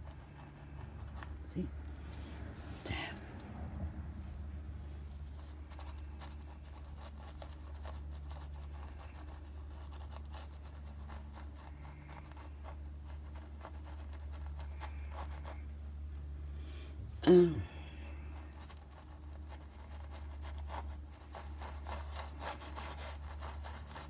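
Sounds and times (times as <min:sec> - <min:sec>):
paintbrush strokes on canvas: 0:00.0 - 0:03.3, 0:04.8 - 0:15.7, 0:17.9 - 0:24.0
steady low hum: 0:00.0 - 0:24.0.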